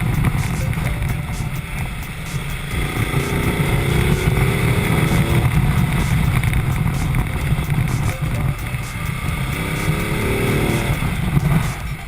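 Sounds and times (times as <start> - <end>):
heavy wind noise: 0.0 - 12.0
motorcycle engine rumble: 0.0 - 12.0.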